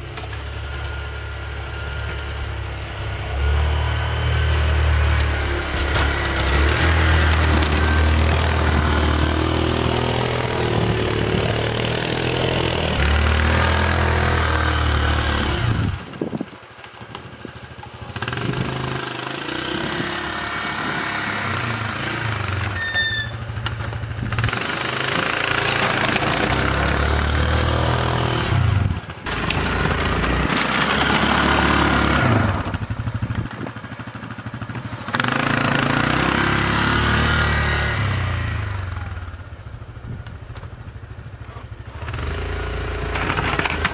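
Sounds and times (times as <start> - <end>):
atv engine surging: 0.0 - 43.9.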